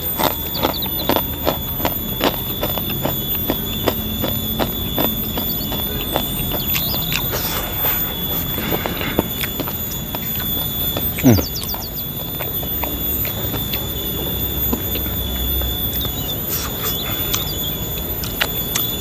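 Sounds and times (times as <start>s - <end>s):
chewing crunchy food: 0.0s - 19.0s
thin high-pitched tone: 1.2s - 19.0s.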